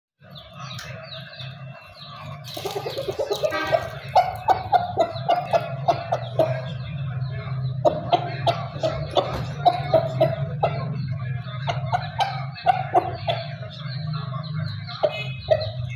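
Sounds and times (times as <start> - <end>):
rooster clucking: 0.3 - 15.9.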